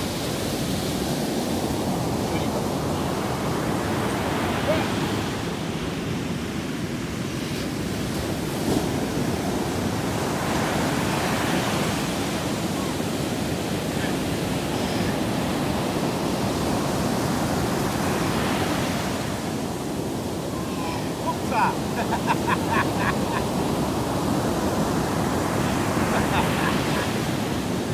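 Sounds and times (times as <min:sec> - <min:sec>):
waves breaking on shore: 0:00.0 - 0:27.9.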